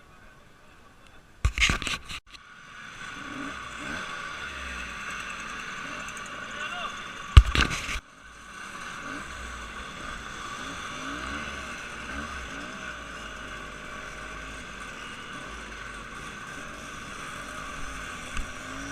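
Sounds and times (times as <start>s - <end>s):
engines running and revving: 2.3s - 18.9s.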